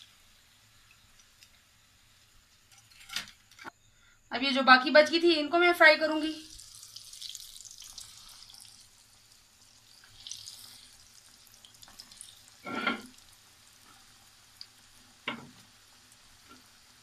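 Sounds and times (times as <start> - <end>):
faint oil sizzle: 0.0 - 17.0.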